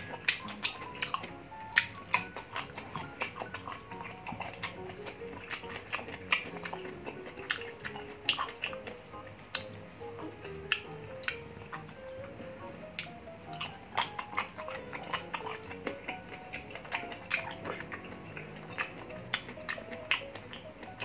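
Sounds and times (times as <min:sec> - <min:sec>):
crunching and chewing mango: 0:00.0 - 0:21.0
light background music: 0:00.0 - 0:21.0.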